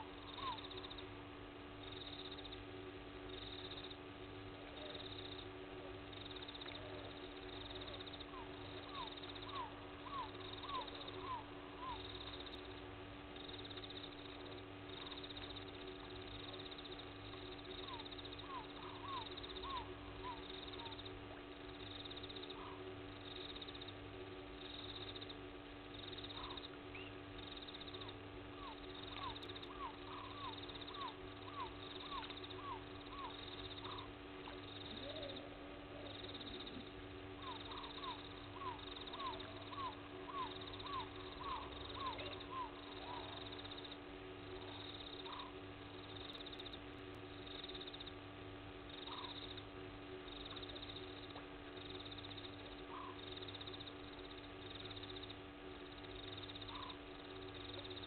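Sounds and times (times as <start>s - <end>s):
pulsing animal drone: 1.9s - 58.0s.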